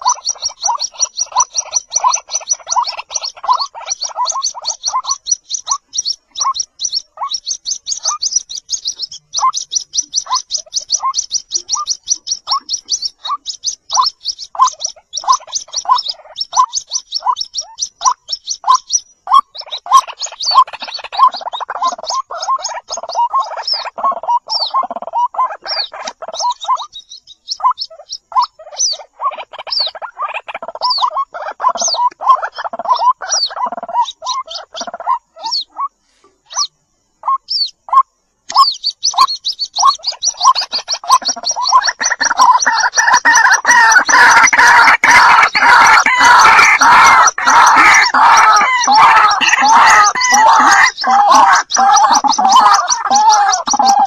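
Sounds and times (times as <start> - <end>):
bird chicks chirping: 0.0 - 54.0.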